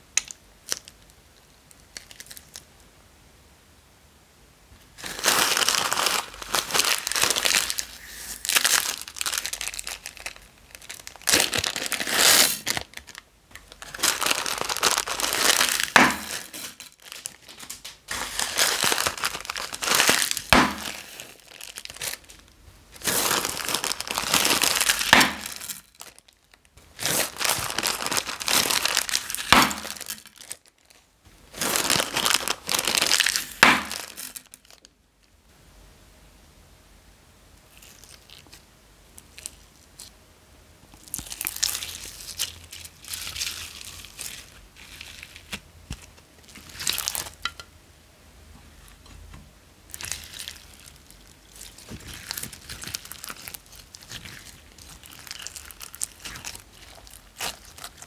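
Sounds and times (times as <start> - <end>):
plastic bags crinkling: 1.7 - 2.7, 5.0 - 34.9, 37.7 - 38.6, 41.0 - 47.7, 49.9 - 58.0.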